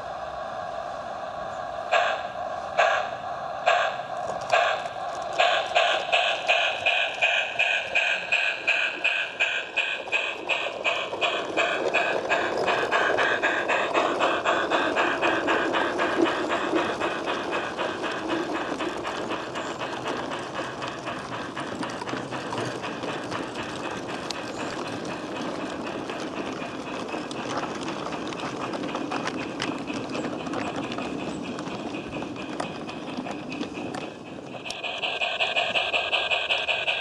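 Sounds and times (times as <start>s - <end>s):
model steam train chuffing: 0.0s - 37.0s
wheels rattling on track: 1.8s - 37.0s.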